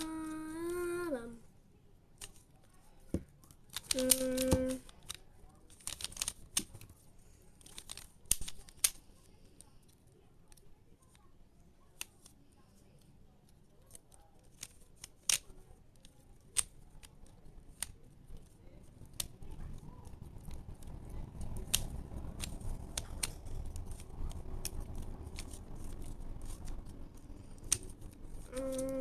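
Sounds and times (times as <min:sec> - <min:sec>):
plastic puzzle clicking: 0:02.2 - 0:02.5, 0:03.1 - 0:11.2, 0:13.8 - 0:29.0.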